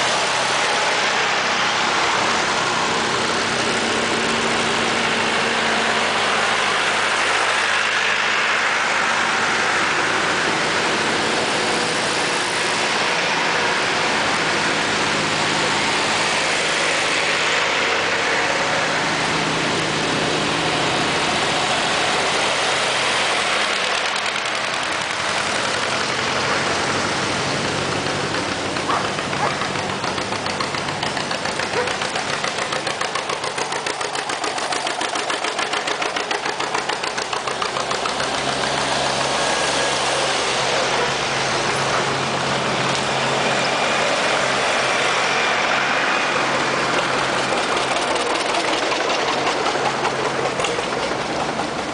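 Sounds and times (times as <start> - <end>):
tractor engines passing: 0.0 - 51.9
two-cylinder tractor exhaust beat: 0.0 - 51.9.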